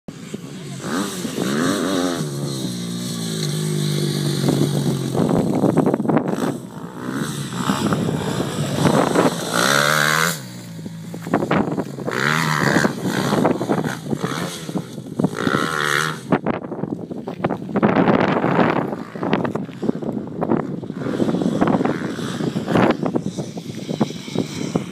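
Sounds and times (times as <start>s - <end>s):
motocross bike engine revving: 0.1s - 16.6s, 18.0s - 24.9s.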